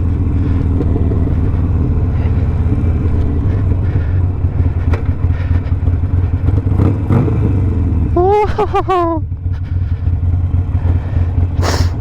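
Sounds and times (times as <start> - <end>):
motorcycle engine deep rumble: 0.0 - 12.0.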